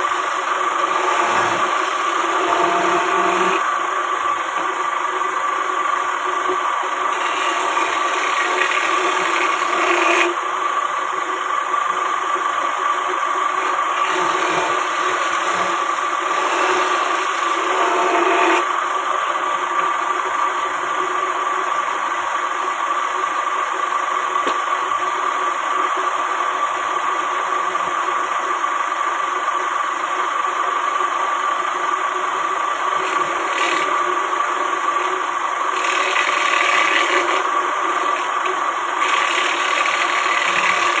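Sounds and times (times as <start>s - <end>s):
machine humming: 0.0s - 25.9s, 31.6s - 41.0s.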